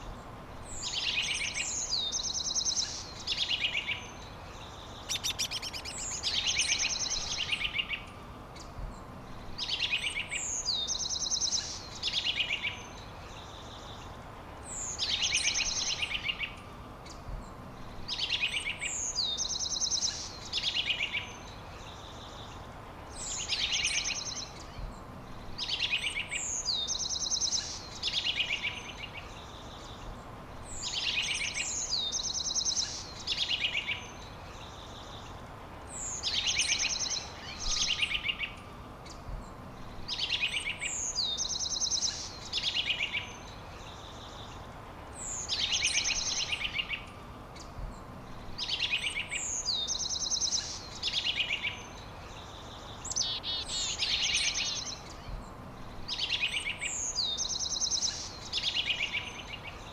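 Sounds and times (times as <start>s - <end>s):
background hiss: 0.0s - 59.9s
songbird trilling song: 0.0s - 59.9s.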